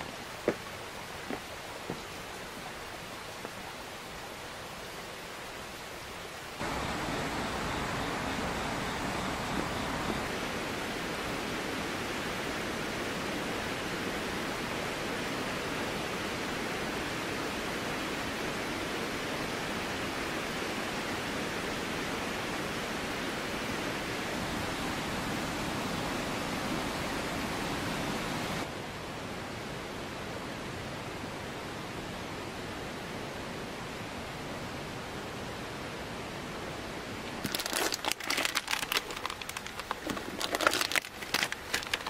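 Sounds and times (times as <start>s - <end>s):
river rushing over rocks: 0.0s - 37.4s.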